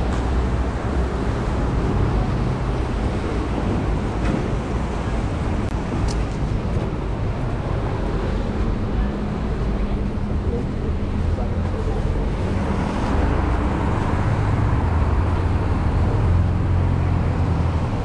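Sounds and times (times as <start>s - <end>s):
traffic on wet roads: 0.0s - 18.0s.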